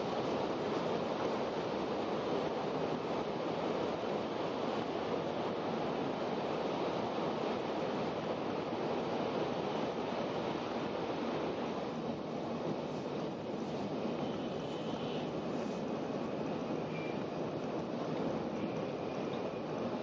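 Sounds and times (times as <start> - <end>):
train cabin running noise: 0.0 - 20.0.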